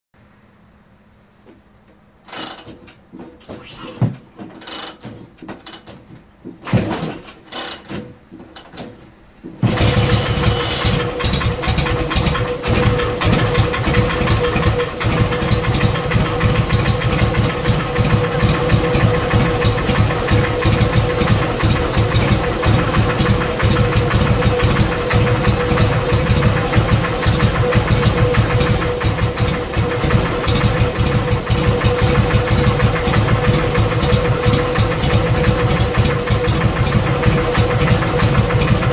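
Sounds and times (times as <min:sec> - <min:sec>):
motorcycle engine idling with knock: 0:05.0 - 0:38.9
motorcycle being kick-started: 0:06.6 - 0:08.9, 0:09.6 - 0:38.8.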